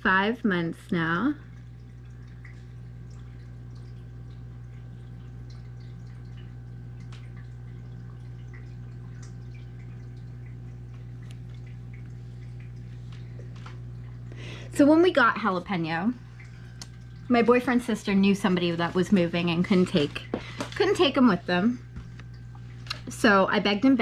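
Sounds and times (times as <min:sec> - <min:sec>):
low hum: 0:00.0 - 0:24.0
water trickling and dripping: 0:00.0 - 0:24.0.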